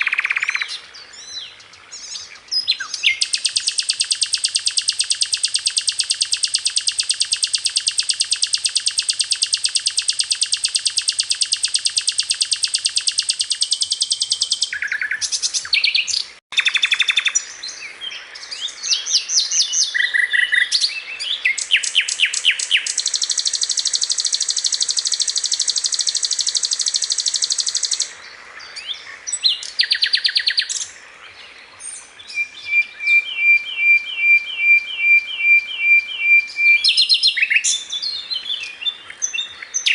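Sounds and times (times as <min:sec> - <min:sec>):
songbird trilling and chirping: 0:00.0 - 0:39.9.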